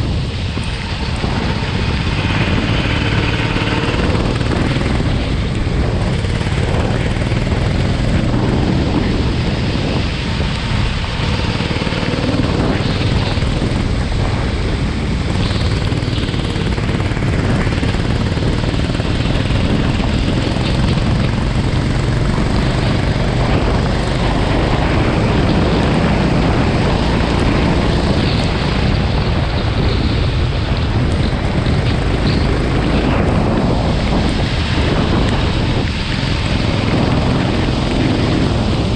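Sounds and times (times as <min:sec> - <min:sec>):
kart engine running: 0:00.0 - 0:38.9
wind noise on microphone: 0:00.0 - 0:38.9.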